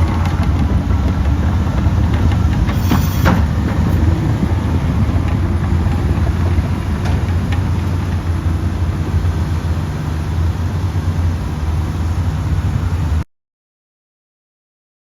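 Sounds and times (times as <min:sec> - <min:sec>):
bulldozer diesel engine droning: 0:00.0 - 0:13.2.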